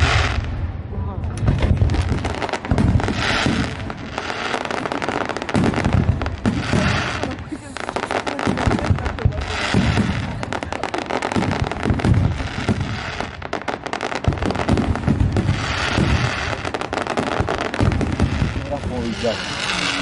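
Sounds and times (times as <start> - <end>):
firework crackle: 0.0 - 20.0
firework shells booming: 0.0 - 20.0.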